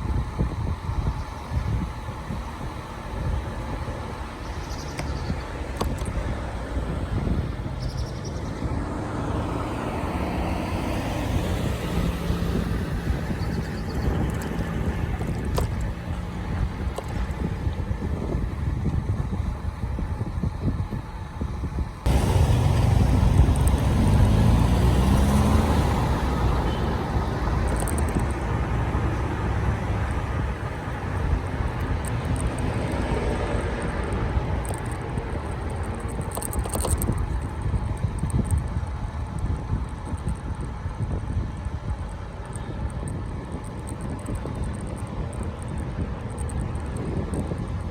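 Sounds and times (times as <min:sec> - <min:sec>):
faint engine hum: 0:00.0 - 0:47.9
road rumble: 0:00.0 - 0:47.9
wind buffeting: 0:00.0 - 0:47.9.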